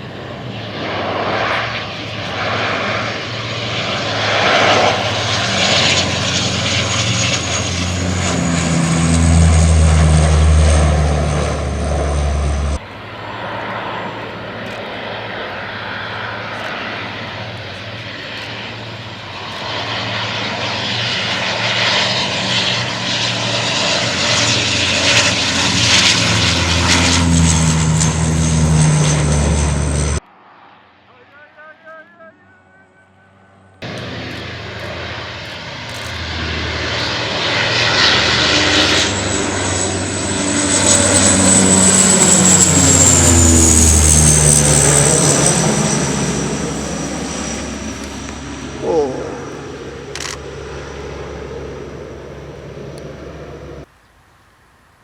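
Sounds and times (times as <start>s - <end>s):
turboprop aircraft passing: 0.0s - 53.9s.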